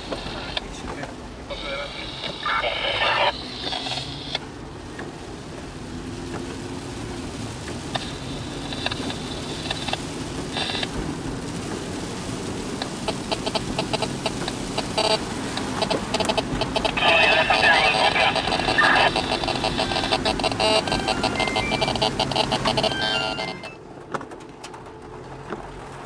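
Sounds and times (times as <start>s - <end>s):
car engine and road noise: 0.0s - 26.0s
rain on windshield: 0.0s - 26.0s.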